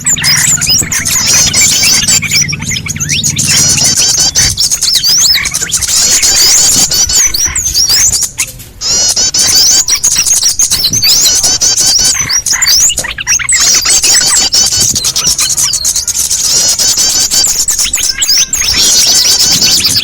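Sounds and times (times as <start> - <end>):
small birds chirping and twittering: 0.0 - 20.0.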